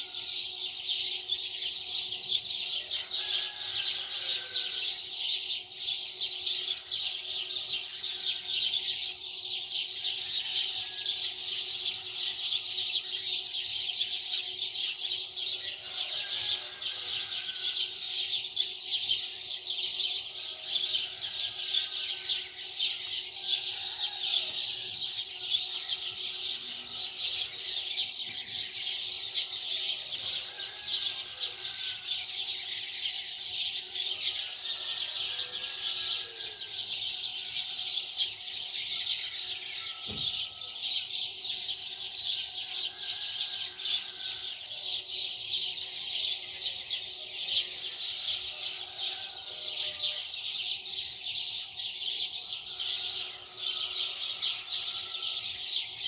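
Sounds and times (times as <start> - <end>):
many small birds chirping: 0.0 - 56.0.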